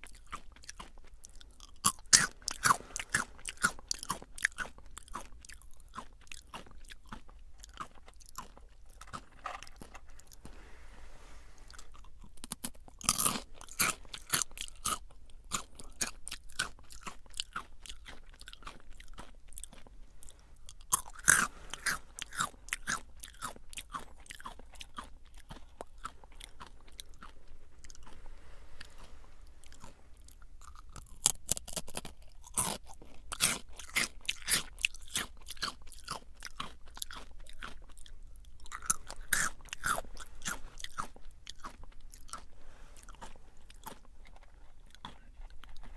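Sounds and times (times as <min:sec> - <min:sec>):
potato sticks crunching: 0:00.0 - 0:10.6, 0:11.7 - 0:45.9
soft chewing crackle: 0:00.0 - 0:45.9.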